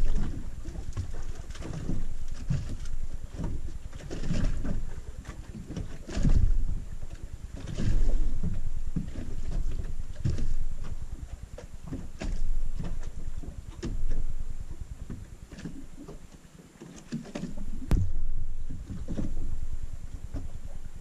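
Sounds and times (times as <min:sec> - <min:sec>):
wind rumbling on microphone: 0:00.0 - 0:16.3, 0:17.1 - 0:21.0
small waves lapping against boat hull: 0:00.0 - 0:21.0.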